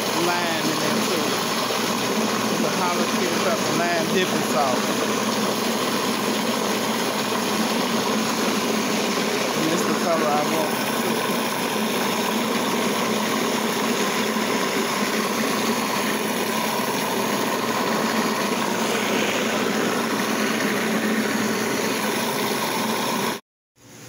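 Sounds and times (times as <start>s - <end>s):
food processor motor running: 0.0s - 24.0s.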